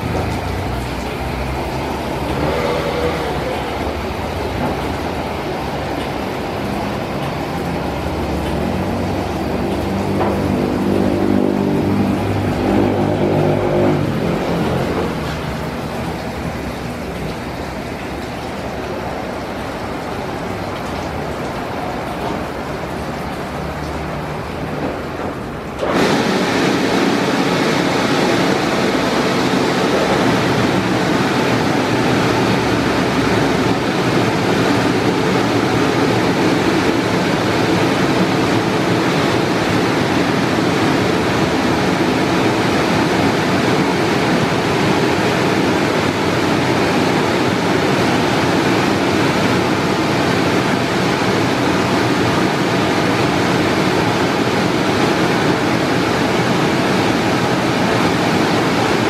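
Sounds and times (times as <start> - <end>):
car wash rushing noise: 0.0 - 59.0.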